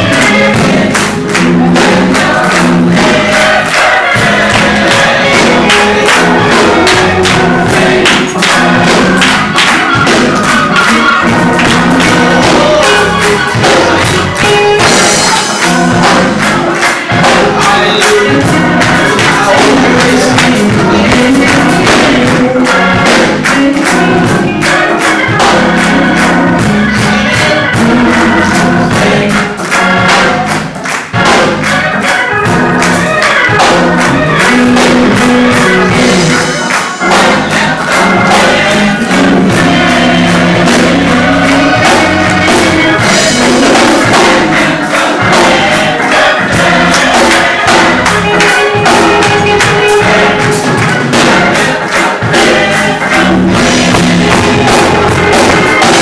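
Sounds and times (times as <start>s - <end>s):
gospel choir singing a hymn: 0.0s - 56.0s
instrumental accompaniment with beat: 0.0s - 56.0s.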